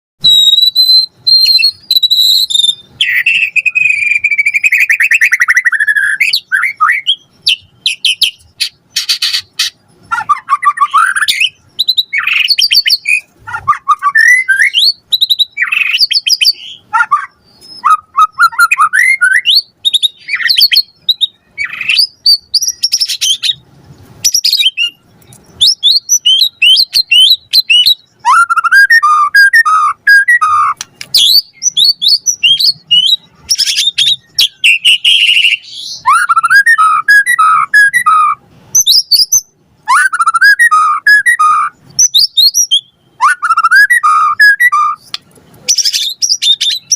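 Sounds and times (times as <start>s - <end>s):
songbird singing varied song: 0.2s - 46.9s.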